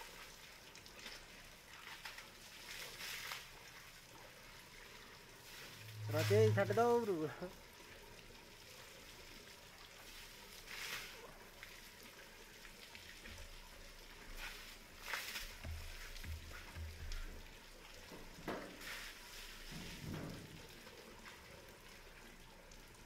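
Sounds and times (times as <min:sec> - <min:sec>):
elephant spraying water: 0:00.0 - 0:22.1
water from hose splashing into bucket: 0:00.0 - 0:23.0.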